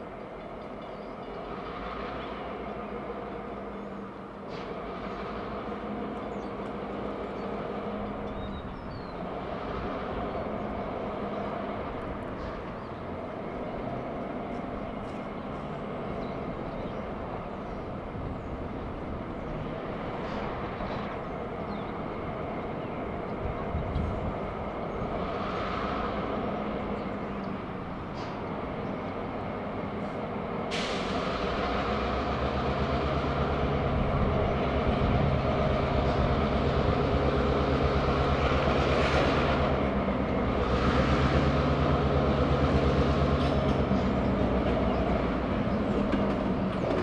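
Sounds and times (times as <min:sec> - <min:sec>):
diesel locomotive engine droning: 0:00.0 - 0:47.0.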